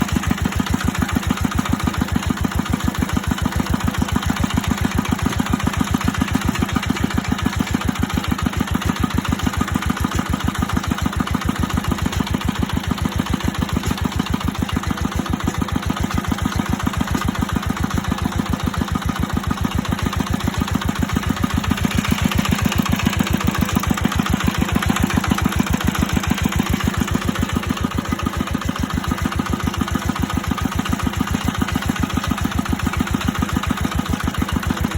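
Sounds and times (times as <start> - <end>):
engine idling with chugging beat: 0.0 - 34.9.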